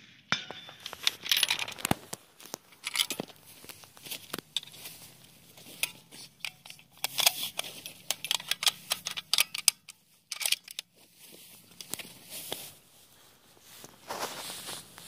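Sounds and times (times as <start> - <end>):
handling clicks and rustles: 0.3 - 15.0.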